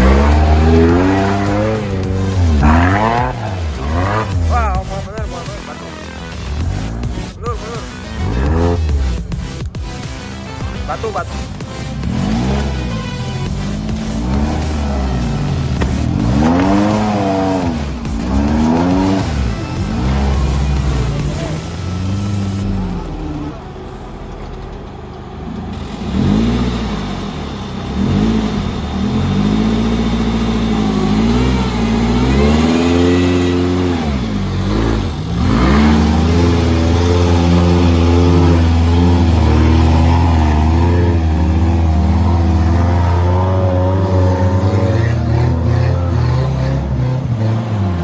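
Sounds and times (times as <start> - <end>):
engine revving: 0.0 - 48.0.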